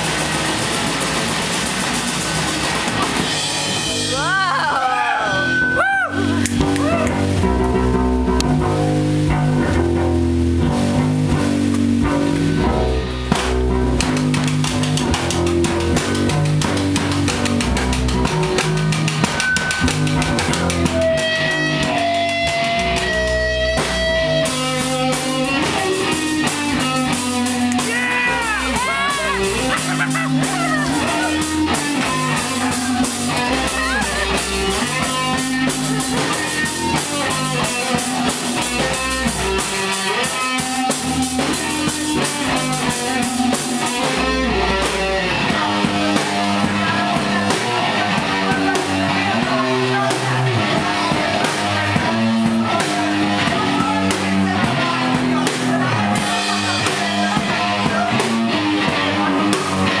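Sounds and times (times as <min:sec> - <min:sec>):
live punk metal band playing: 0:00.0 - 1:00.0.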